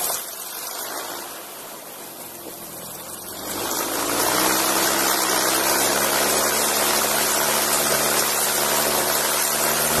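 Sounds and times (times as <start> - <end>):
plane engine and propeller running: 0.0 - 10.0
skis hissing across snow: 0.0 - 10.0.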